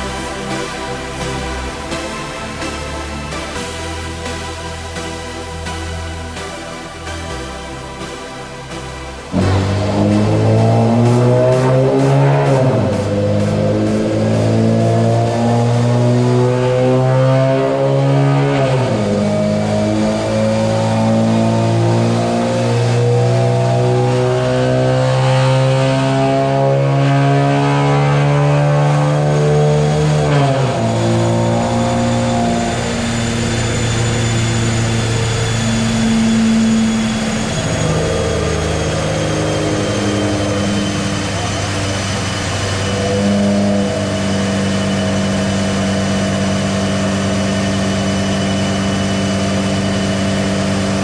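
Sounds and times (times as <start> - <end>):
car engine revving on dyno: 0.0 - 51.0.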